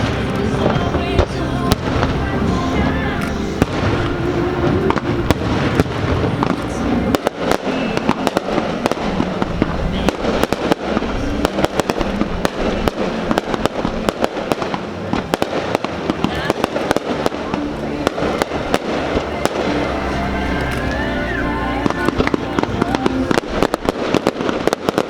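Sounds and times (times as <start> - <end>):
fireworks crackling: 0.0 - 25.0.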